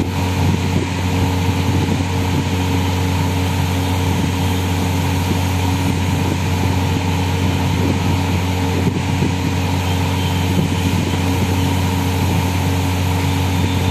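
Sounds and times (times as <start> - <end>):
machine hum with tones: 0.0 - 13.9.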